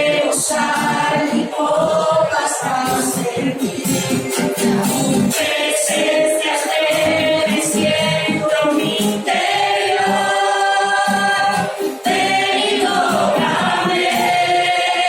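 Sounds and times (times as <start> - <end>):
group singing worship song: 0.0 - 15.0
musical accompaniment: 0.0 - 15.0.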